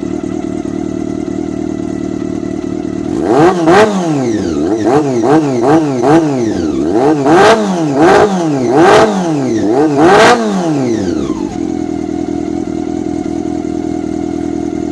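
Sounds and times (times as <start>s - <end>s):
motorcycle engine idling: 0.0s - 14.9s
motorcycle engine revving: 0.0s - 14.9s.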